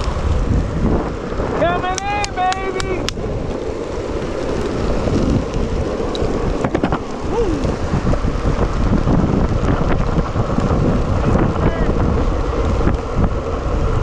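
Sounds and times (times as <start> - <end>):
skateboard wheels rolling on asphalt: 0.0 - 14.0
wind roaring over microphone: 0.0 - 14.0.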